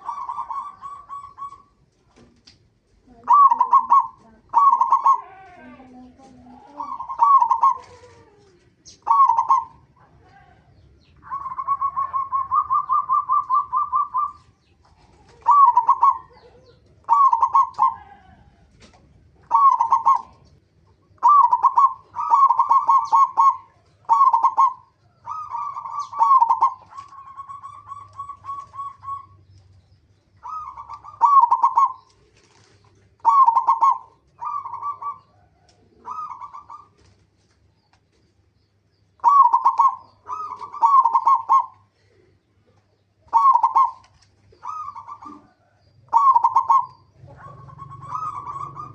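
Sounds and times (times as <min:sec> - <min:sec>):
dove cooing: 0:00.0 - 0:01.9, 0:03.0 - 0:29.6, 0:30.4 - 0:37.2, 0:39.2 - 0:48.9.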